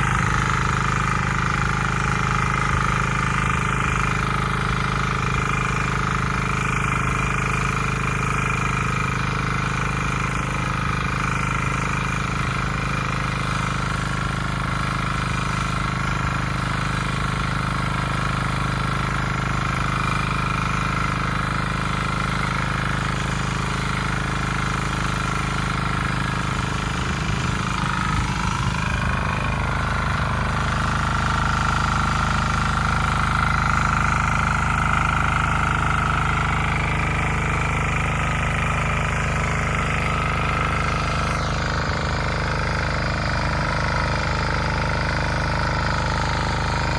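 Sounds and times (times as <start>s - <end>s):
tiller engine running: 0.0s - 46.9s.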